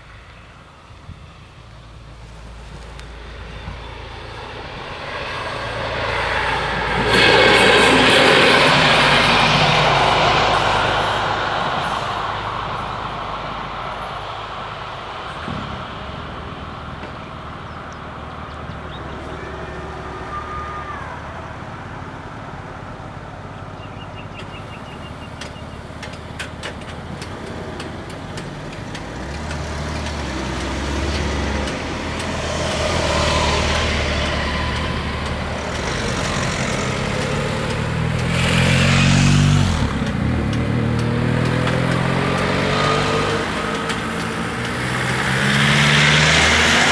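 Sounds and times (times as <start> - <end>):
road traffic passing: 0.0 - 46.9
vehicle passing close: 0.0 - 46.9.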